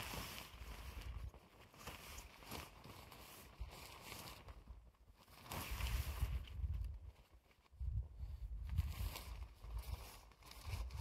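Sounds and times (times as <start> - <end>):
tent fabric rustling: 0.0 - 11.0.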